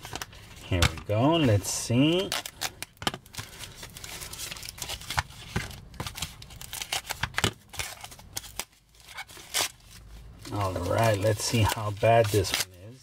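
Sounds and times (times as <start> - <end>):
packing wrap rustling: 0.0 - 13.0.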